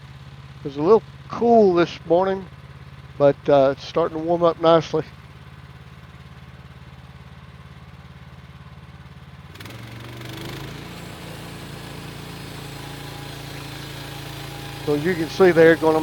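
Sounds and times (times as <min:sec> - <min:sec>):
gas engine idling: 0:00.1 - 0:16.0.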